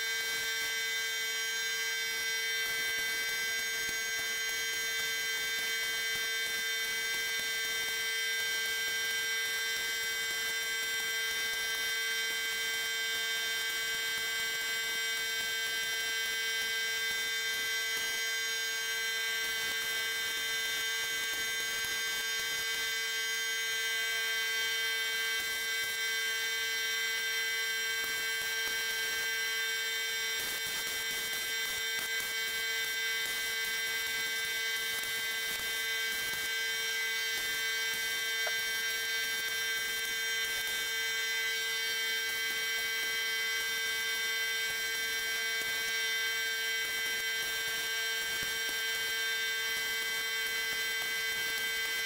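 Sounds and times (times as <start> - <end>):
electric motor humming and whining: 0.0 - 52.0.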